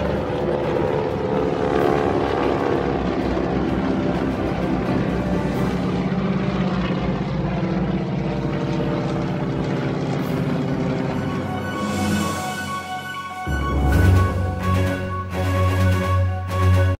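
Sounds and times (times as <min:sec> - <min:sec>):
propeller planes droning overhead: 0:00.0 - 0:16.9.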